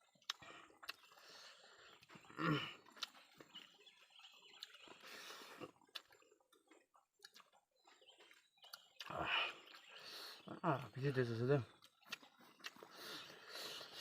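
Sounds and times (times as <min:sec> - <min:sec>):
person chewing: 0:00.0 - 0:10.5, 0:11.8 - 0:14.0.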